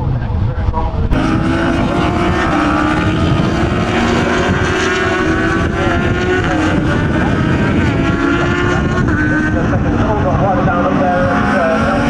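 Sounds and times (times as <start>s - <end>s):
racing motorcycle engines droning: 0.0s - 12.0s.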